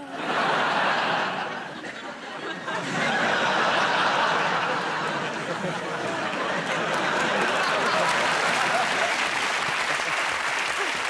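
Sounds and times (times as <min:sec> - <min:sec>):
studio audience laughing: 0:00.0 - 0:11.0.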